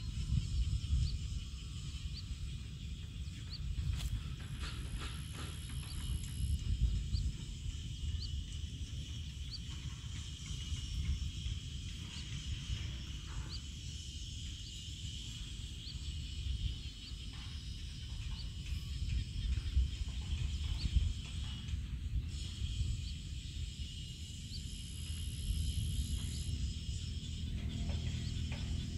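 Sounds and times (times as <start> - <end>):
high insect drone: 0.0 - 28.9
low rumble: 0.0 - 28.9.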